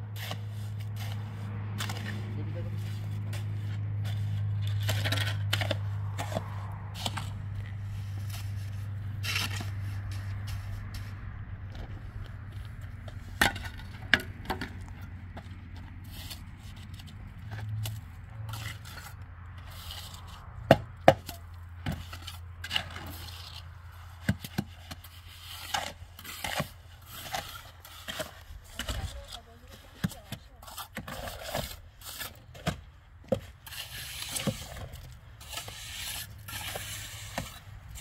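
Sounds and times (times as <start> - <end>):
scraping: 0.2 - 38.0.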